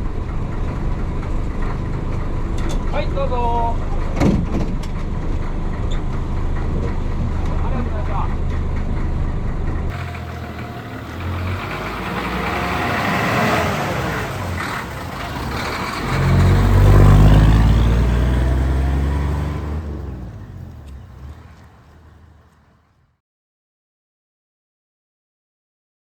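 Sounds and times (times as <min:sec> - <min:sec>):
diesel bus engine revving: 0:00.0 - 0:23.1.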